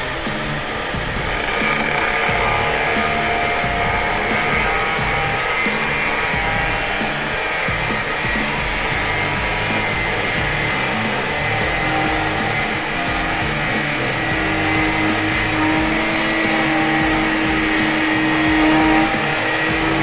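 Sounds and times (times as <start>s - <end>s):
angle grinder whining: 0.0s - 20.0s
background music with bass line: 0.0s - 20.0s.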